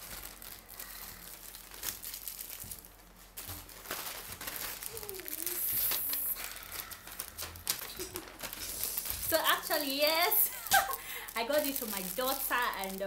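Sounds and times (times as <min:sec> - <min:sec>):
paper rustling: 0:00.0 - 0:13.0
plastic bag crinkling: 0:00.0 - 0:13.0.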